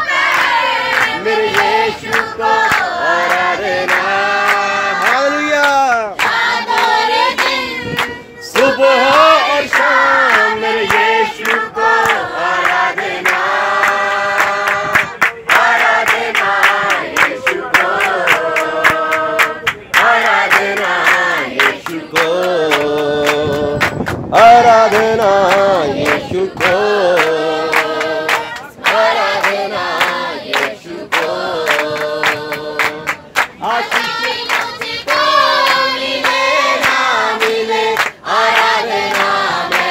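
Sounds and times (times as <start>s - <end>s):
group singing: 0.0s - 39.9s
rhythmic hand-clapping: 0.0s - 39.9s.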